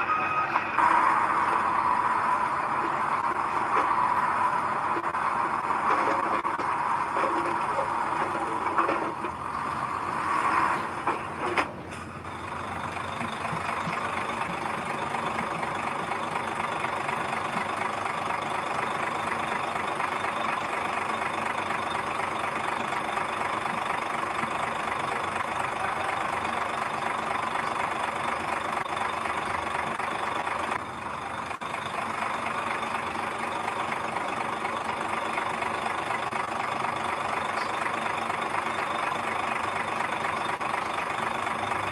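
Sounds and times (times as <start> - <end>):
heavy machine engine running: 0.0 - 41.9.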